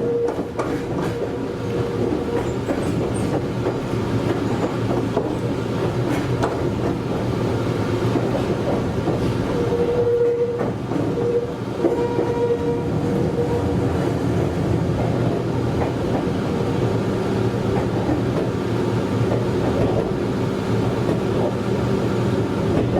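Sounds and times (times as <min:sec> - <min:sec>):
train running gear rumble: 0:00.0 - 0:22.9.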